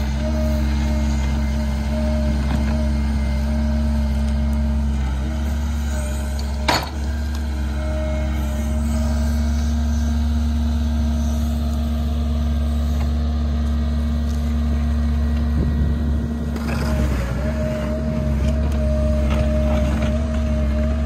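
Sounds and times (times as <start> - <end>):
tractor diesel engine droning: 0.0 - 21.0.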